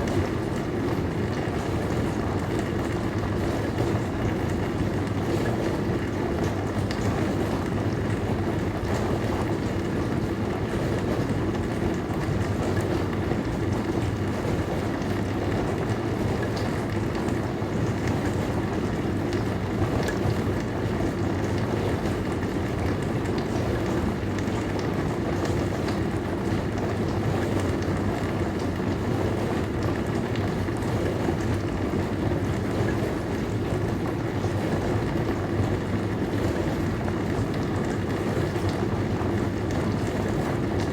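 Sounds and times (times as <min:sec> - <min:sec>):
dishwasher running: 0:00.0 - 0:40.9.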